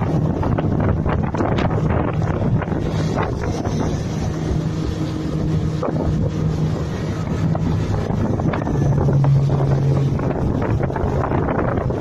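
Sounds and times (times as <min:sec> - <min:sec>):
outboard motor drone: 0:00.0 - 0:12.0
wind buffeting microphone: 0:00.0 - 0:12.0.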